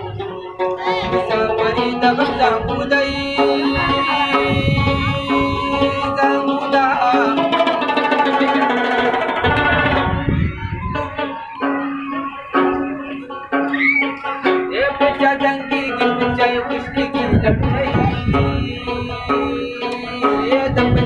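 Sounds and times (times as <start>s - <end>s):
plucked lute melody: 0.0s - 21.0s.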